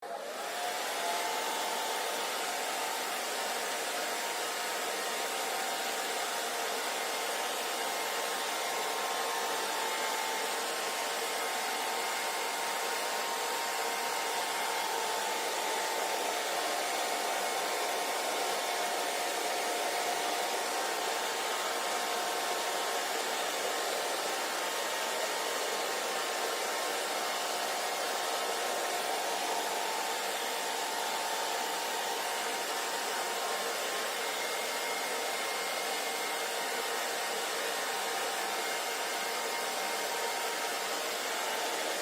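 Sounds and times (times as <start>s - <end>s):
hair dryer running: 0.0s - 42.0s.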